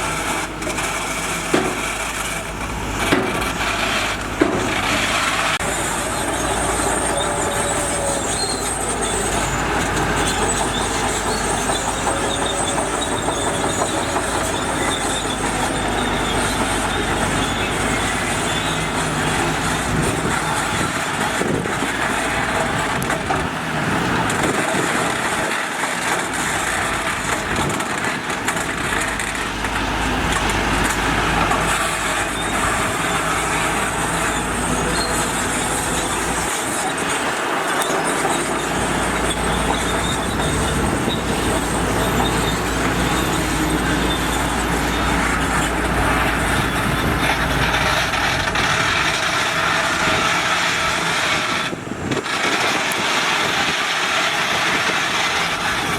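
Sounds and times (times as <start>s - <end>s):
heavy construction machinery running: 0.0s - 55.9s.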